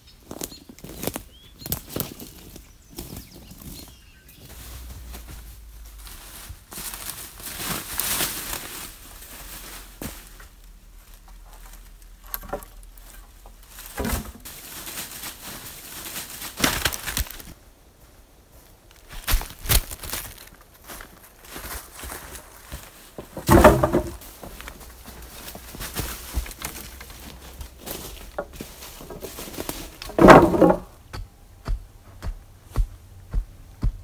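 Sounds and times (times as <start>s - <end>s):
branches rustling and scraping: 0.0s - 34.0s
footsteps crunching through dry leaves: 0.2s - 30.7s.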